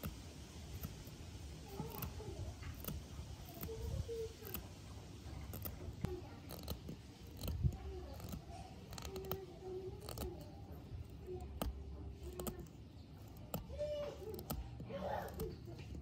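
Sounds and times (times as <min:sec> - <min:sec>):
knife whittling wood: 0:00.0 - 0:16.0.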